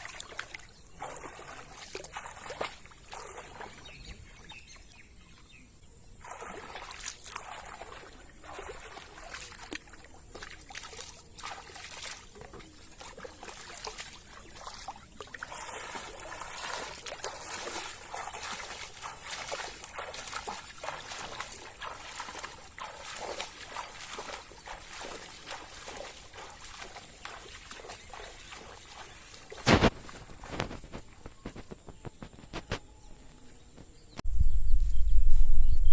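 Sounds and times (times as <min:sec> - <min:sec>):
water sloshing and splashing: 0:00.0 - 0:05.0, 0:06.2 - 0:31.7.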